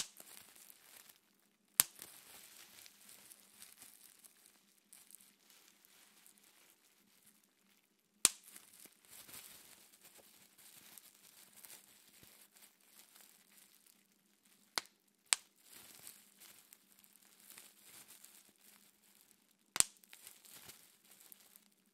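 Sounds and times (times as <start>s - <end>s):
bubble wrap crinkling: 0.0s - 21.9s
bubble wrap pops: 0.0s - 21.9s.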